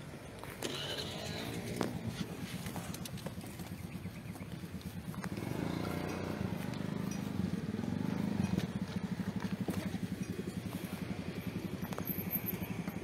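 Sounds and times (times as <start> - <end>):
engine running with fast pulse: 0.5 - 13.0.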